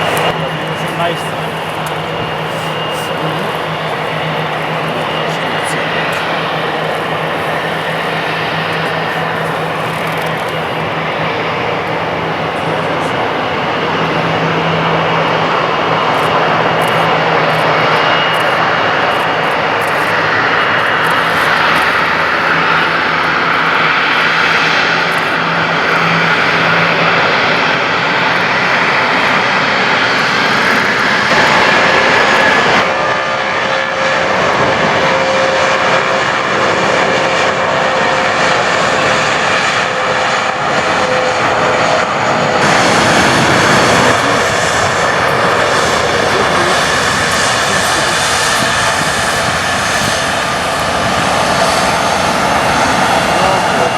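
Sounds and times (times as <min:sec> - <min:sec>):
airliner engines running: 0:00.0 - 0:53.9.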